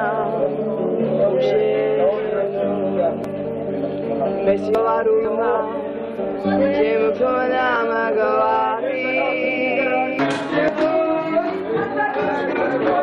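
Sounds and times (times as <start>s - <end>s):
group of people singing: 0.0s - 3.2s, 4.1s - 13.0s.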